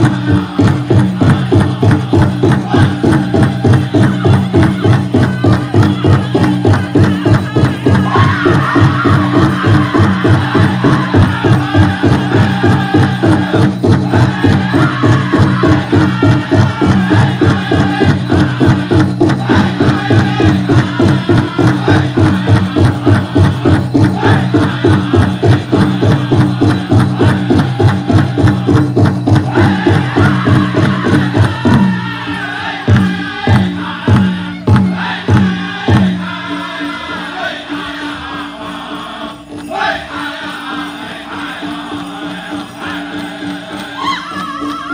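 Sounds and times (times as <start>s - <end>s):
big drum beating: 0.0s - 38.0s
group singing: 0.0s - 44.9s.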